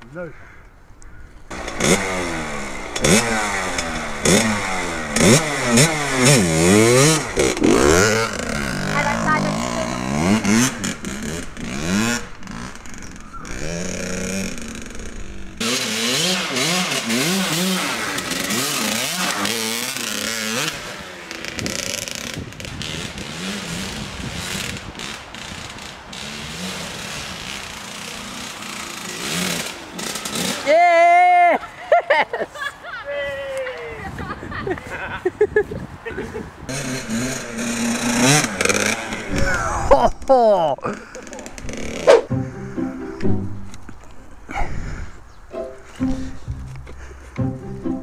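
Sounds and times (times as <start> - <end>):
dirt bike engine revving: 1.5 - 31.5, 36.7 - 47.8.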